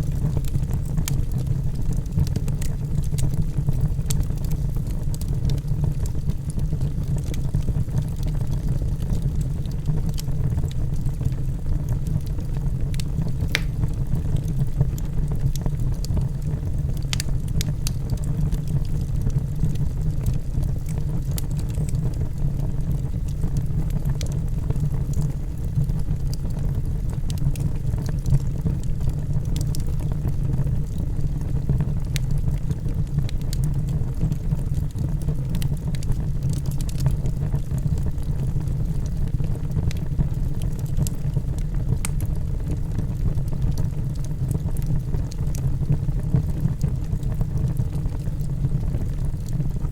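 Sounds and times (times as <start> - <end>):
log fire burning: 0.0 - 49.9
logs crackling and popping: 0.0 - 49.9.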